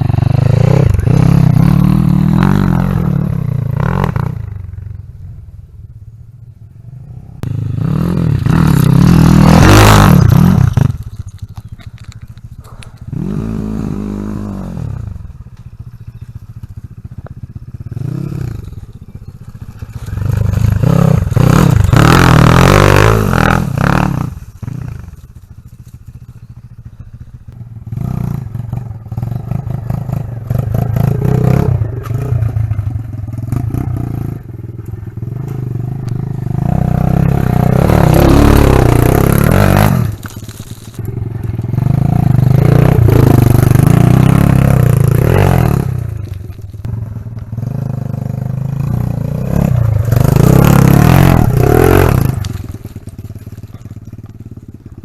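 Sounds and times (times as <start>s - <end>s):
dirt bike engine revving: 0.0s - 5.0s, 6.8s - 11.4s, 13.0s - 55.0s.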